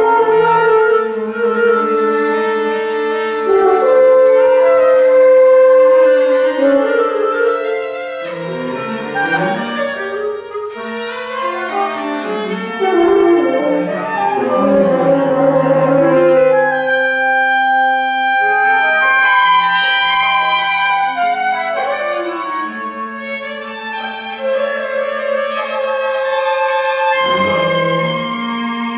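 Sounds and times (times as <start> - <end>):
chamber ensemble strings and winds: 0.0 - 28.9.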